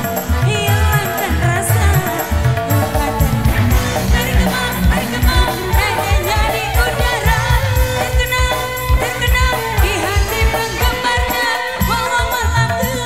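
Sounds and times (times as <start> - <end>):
drums and bass beat: 0.0 - 13.0
woman singing into microphone: 0.0 - 13.0.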